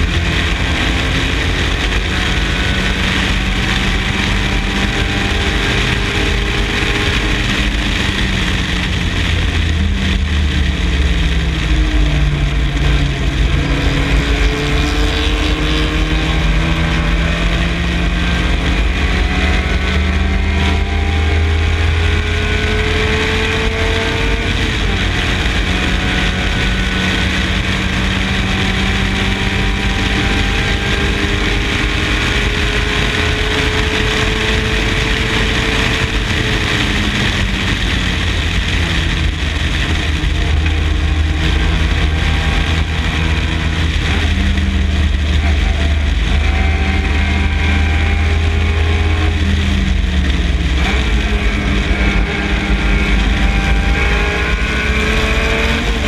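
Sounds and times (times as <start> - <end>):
dense rushing noise: 0.0 - 56.0
race car engine running hard: 0.0 - 56.0.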